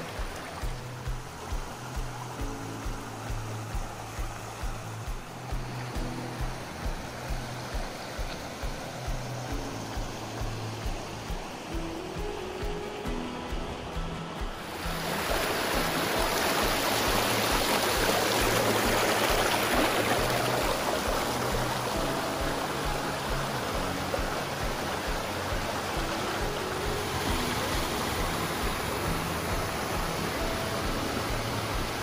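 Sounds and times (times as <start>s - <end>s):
creek water rushing over rocks: 0.0s - 32.0s.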